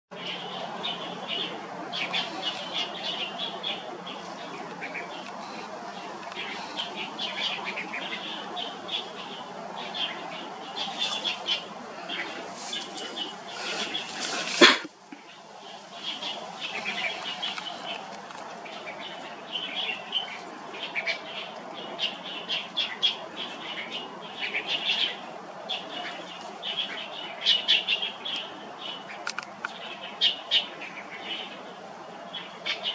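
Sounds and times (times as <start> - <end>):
birds chirping: 0.1 - 32.9
steady background hum: 0.2 - 32.9.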